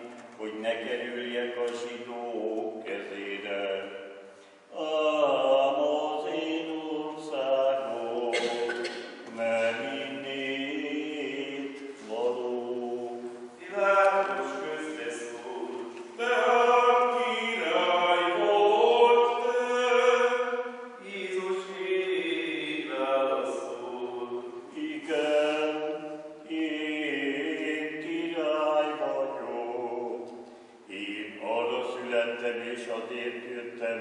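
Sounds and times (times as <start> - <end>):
man chanting: 0.0 - 30.3, 30.9 - 34.0.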